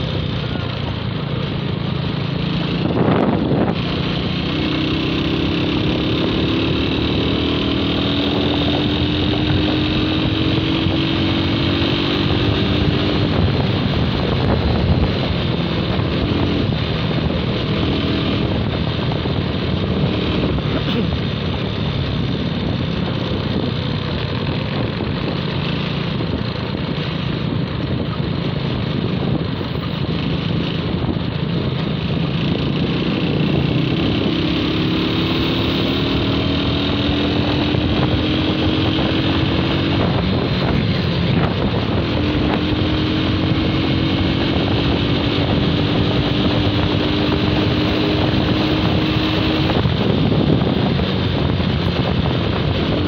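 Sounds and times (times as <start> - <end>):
motorcycle engine running: 0.0 - 53.0
wind noise on microphone: 0.0 - 53.0.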